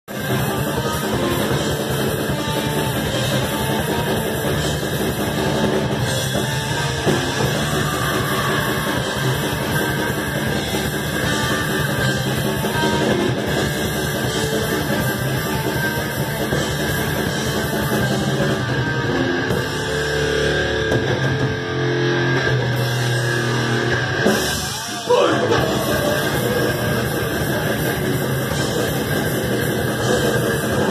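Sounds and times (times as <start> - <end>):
distorted electric guitars: 0.0 - 30.9
drum kit: 0.0 - 30.9.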